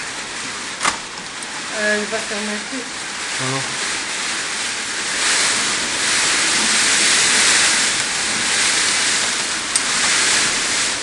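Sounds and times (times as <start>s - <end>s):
heavy rain and wind: 0.0s - 11.0s.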